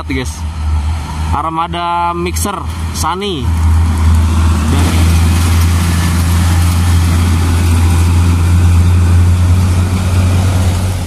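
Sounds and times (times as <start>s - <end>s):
truck diesel engine passing: 0.0s - 11.0s.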